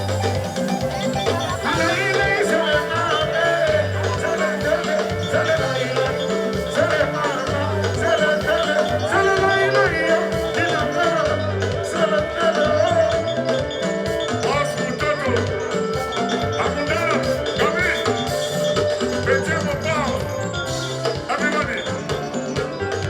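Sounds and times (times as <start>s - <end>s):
live rumba band music: 0.0s - 23.0s.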